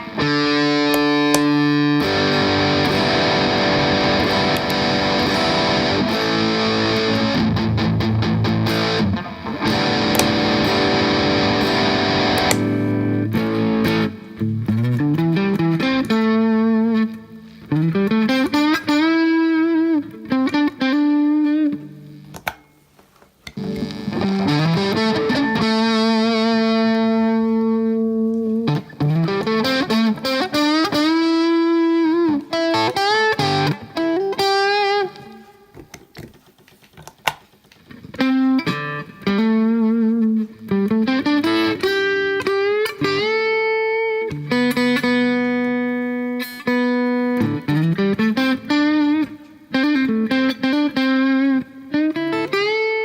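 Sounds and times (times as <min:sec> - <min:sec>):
overdriven electric guitar: 0:00.0 - 0:53.0.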